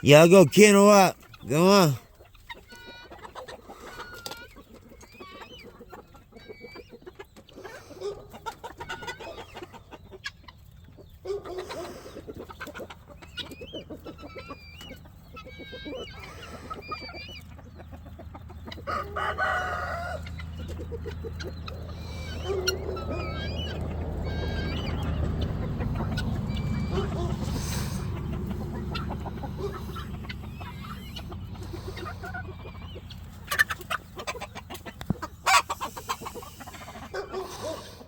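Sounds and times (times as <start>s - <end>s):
chickens clucking: 2.5s - 38.0s.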